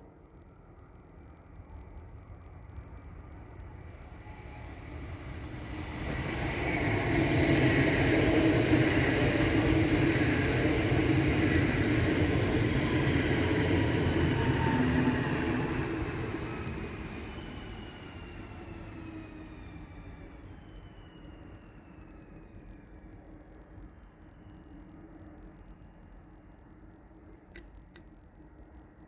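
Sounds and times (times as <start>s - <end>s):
train wheels rumbling on rails: 0.0s - 25.2s
faint tones sliding down: 0.1s - 27.5s.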